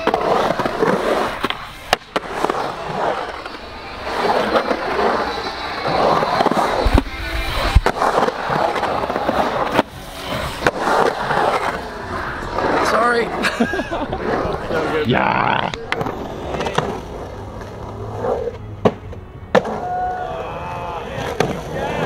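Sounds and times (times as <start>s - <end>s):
skateboard clacking on ground: 0.0s - 13.3s, 15.6s - 22.0s
skateboard wheels rolling: 0.0s - 22.0s.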